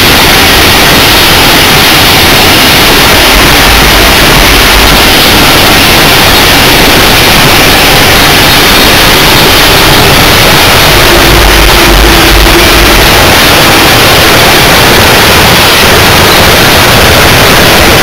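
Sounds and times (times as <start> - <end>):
steam locomotive noise: 0.0 - 18.0.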